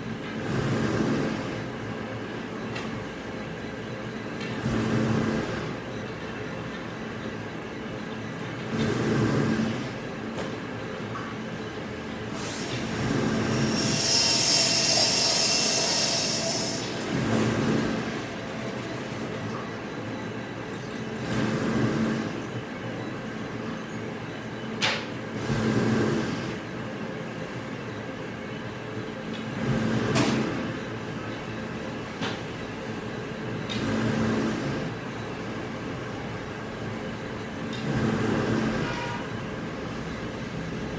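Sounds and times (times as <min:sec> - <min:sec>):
industrial machinery cycling: 0:00.0 - 0:40.9.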